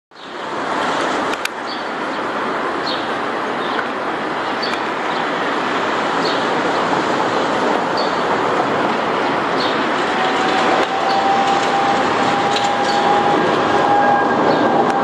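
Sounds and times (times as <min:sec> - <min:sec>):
jet engines rushing: 0:00.3 - 0:15.0.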